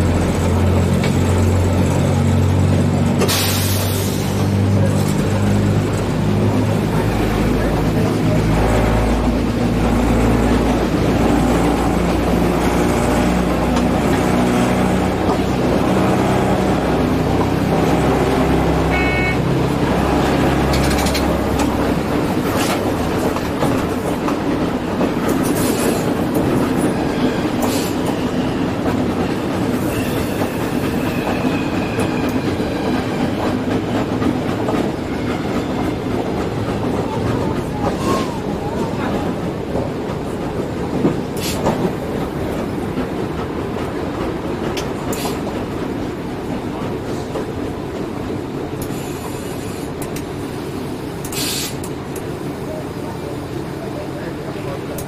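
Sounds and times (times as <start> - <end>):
clacks over rail joints: 0.0 - 50.4
diesel railcar engine running: 0.0 - 55.0
wheels rumbling on track: 0.0 - 55.0.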